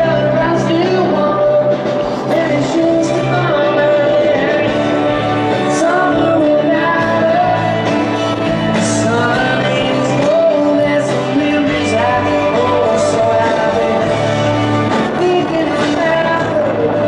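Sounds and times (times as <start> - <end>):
country-rock band playing: 0.0 - 17.0
person singing: 0.0 - 17.0.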